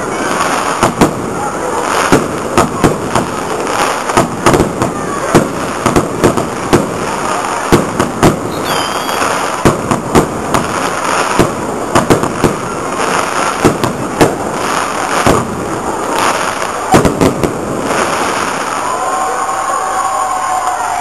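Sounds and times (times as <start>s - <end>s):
fireworks bangs: 0.0s - 21.0s
fireworks crackle and rumble: 0.0s - 21.0s.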